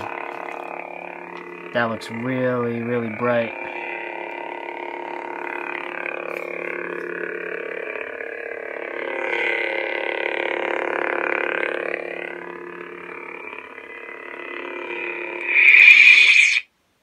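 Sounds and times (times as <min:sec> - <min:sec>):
lightsaber buzzing hum: 0:00.0 - 0:16.7.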